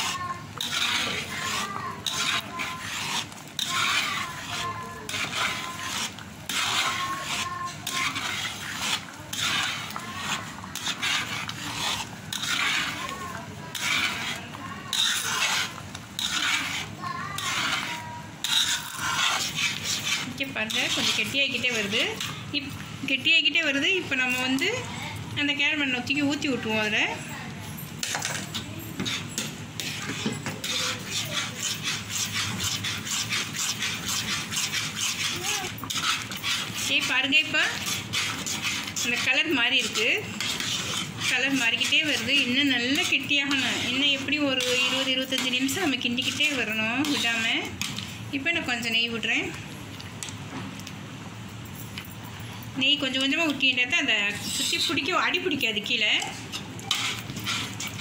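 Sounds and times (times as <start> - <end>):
spoon scraping batter in a pan: 0.0 - 50.9, 53.0 - 58.0.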